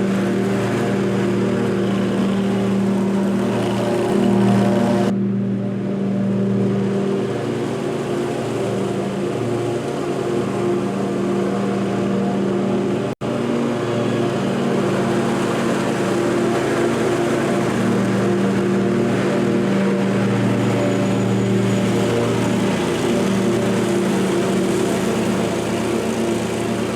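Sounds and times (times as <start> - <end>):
small petrol engine running: 0.0 - 26.9.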